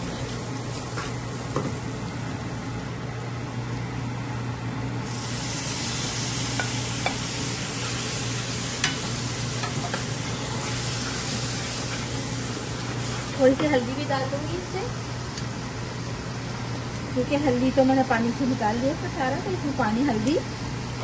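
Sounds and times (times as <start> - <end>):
onions frying in oil: 0.0 - 21.0.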